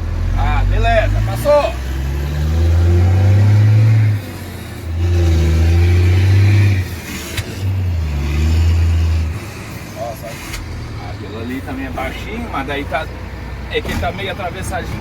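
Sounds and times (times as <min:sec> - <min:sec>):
truck exhaust under throttle: 0:00.0 - 0:15.0.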